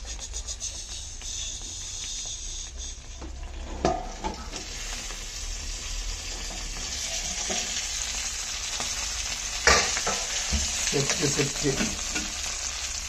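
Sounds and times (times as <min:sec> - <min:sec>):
fish parcel sizzling in pan: 0:00.0 - 0:13.0.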